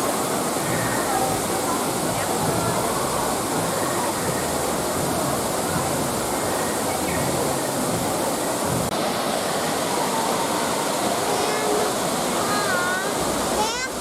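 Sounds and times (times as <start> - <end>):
falling water rushing: 0.0 - 14.0.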